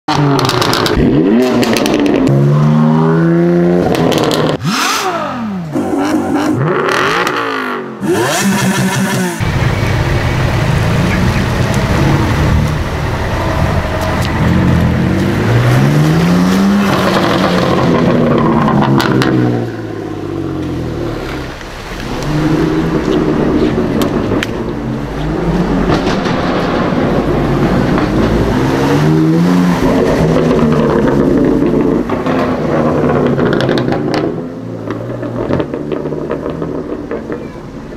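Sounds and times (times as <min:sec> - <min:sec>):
exhaust crackles and pops: 0:00.1 - 0:02.4, 0:03.8 - 0:04.6, 0:08.8 - 0:37.9
car engines revving and accelerating: 0:00.1 - 0:37.9.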